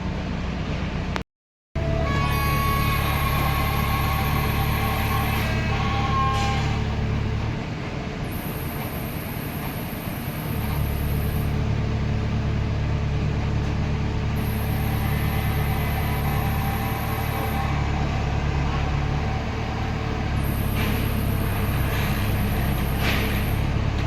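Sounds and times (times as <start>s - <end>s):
diesel engine running: 1.8s - 24.0s.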